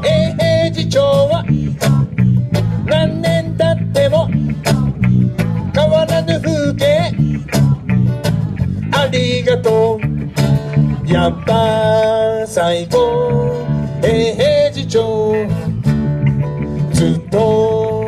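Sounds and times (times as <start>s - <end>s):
bass guitar: 0.0s - 18.0s
live reggae band: 0.0s - 18.0s
strummed acoustic guitar: 0.0s - 18.0s.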